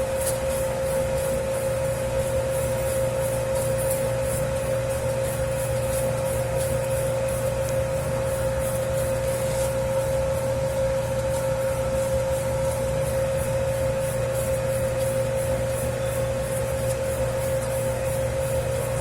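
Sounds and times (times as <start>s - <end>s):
dough-kneading machine humming: 0.0s - 19.0s.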